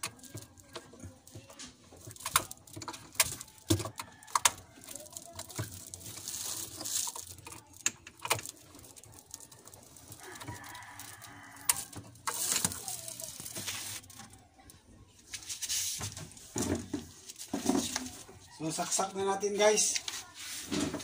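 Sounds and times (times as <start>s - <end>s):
cables rattling: 0.0s - 19.2s
handling rustle: 0.0s - 21.0s.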